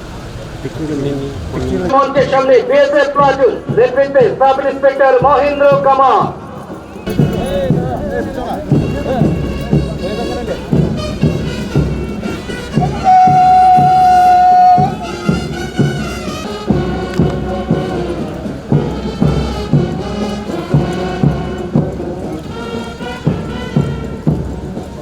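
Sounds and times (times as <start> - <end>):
marching band playing: 0.1 - 25.0
steady drum beat: 0.8 - 25.0.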